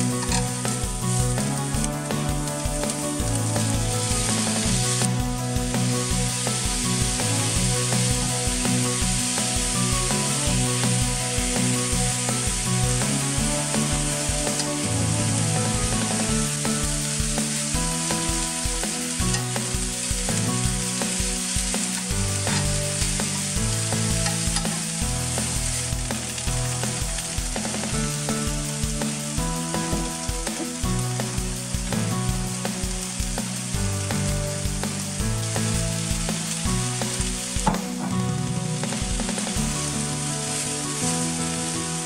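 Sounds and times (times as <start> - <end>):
background music with steady beat: 0.0 - 42.0
noodles and chicken sizzling in pan: 0.0 - 42.0.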